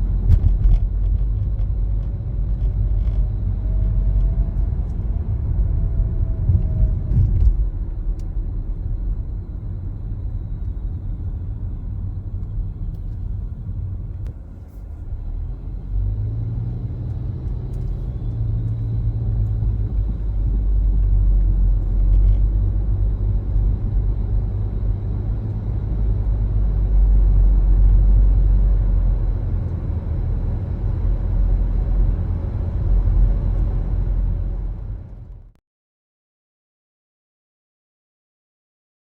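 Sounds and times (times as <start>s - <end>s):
car road and engine rumble: 0.0s - 35.6s.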